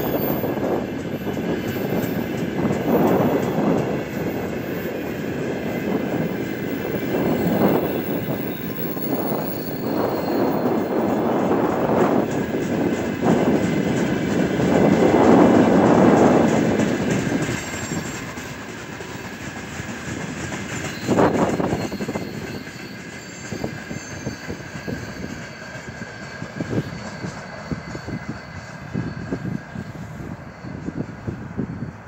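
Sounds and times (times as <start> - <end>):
train wheels clattering over rail joints: 0.0 - 30.0
faint high wheel squeal: 0.0 - 32.0.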